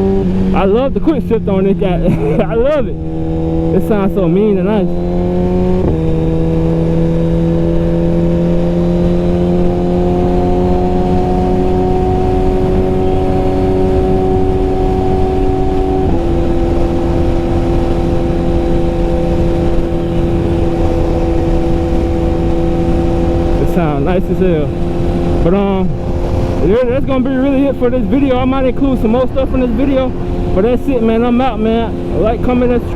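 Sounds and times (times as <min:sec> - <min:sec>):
motorcycle engine upshifting: 0:00.0 - 0:32.9
steady rushing noise: 0:00.0 - 0:32.9.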